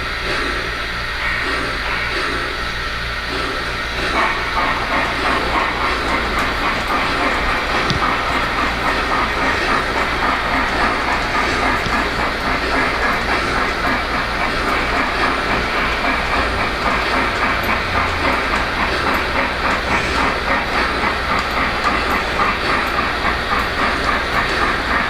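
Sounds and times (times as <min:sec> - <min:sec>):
model train wheels and motors whirring: 0:00.0 - 0:25.0
clicking over rail joints: 0:01.2 - 0:25.0.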